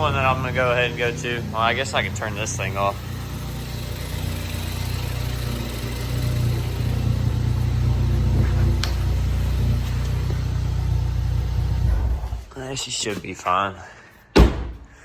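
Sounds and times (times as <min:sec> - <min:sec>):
car engine idling: 0:00.0 - 0:12.5.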